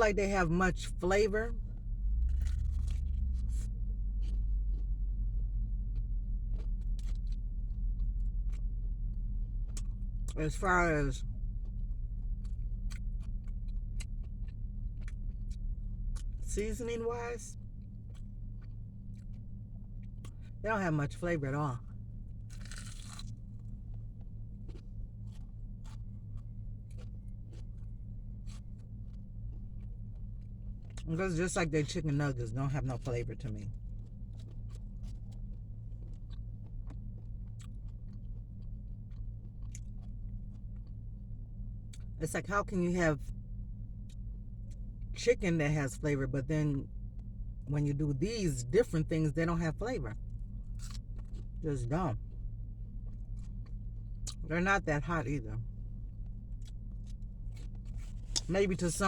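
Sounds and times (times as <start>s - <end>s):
low electrical hum: 0.0s - 59.0s
steady low rumble: 0.0s - 59.0s
chewing crunchy food: 1.6s - 42.4s, 43.2s - 45.1s, 46.8s - 47.7s, 50.1s - 54.5s, 55.2s - 59.0s.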